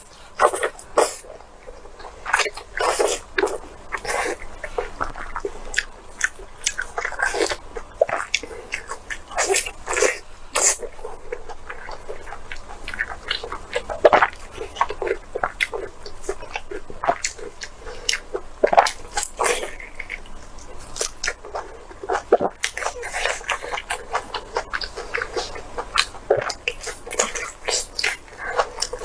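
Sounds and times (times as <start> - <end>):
chewing with wet smacks: 0.0 - 29.0.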